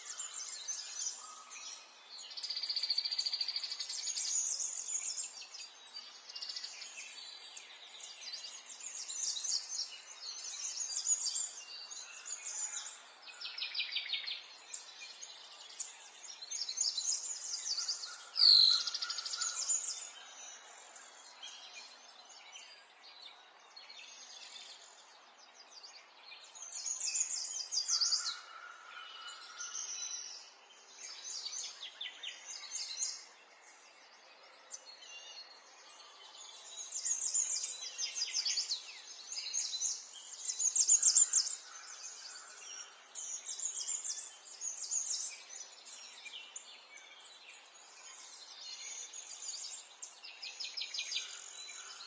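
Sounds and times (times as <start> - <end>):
small birds singing and chirping: 0.0 - 52.0.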